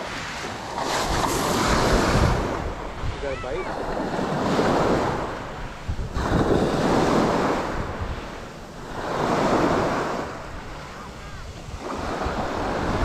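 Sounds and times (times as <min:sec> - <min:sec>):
small waves breaking on beach: 0:00.0 - 0:13.0
wind on microphone: 0:00.0 - 0:13.0.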